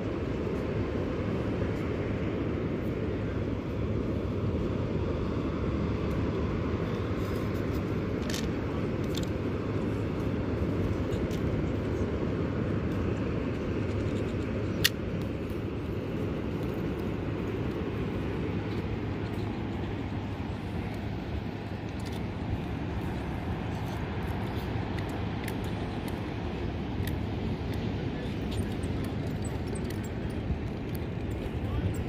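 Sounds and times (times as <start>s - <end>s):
wind and surf rumble: 0.0s - 32.0s.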